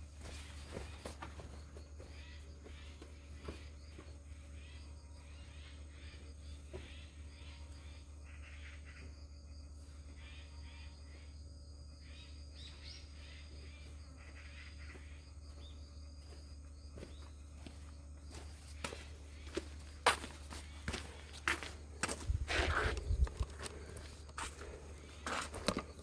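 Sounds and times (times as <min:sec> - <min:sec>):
faint birds chirping: 0:00.0 - 0:26.0
steady low hum: 0:00.0 - 0:26.0.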